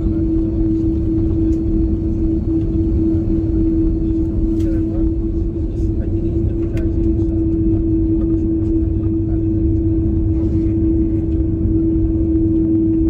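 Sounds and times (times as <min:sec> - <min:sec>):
jet cabin drone: 0:00.0 - 0:13.0.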